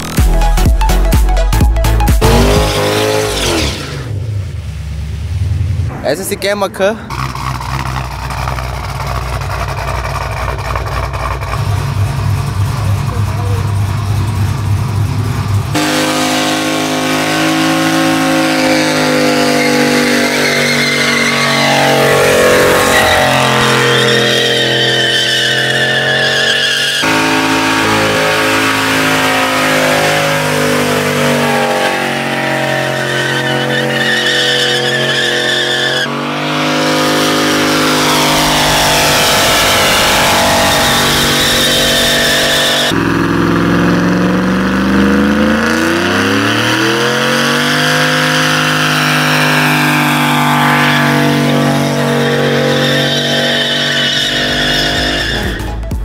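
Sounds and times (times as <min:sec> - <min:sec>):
car engine revving high: 0:02.0 - 0:55.7
tires squealing: 0:02.2 - 0:04.3, 0:05.9 - 0:55.8.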